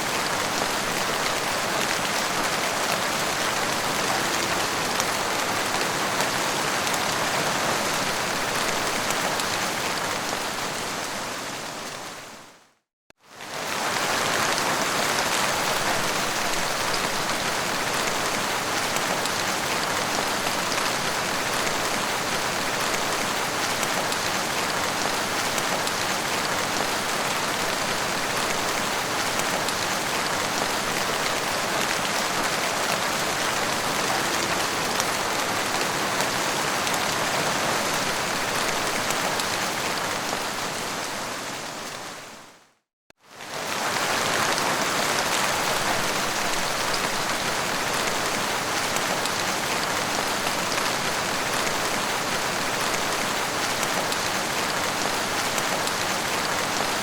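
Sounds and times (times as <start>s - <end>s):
heavy rain falling: 0.0s - 12.3s, 13.3s - 42.4s, 43.3s - 57.0s.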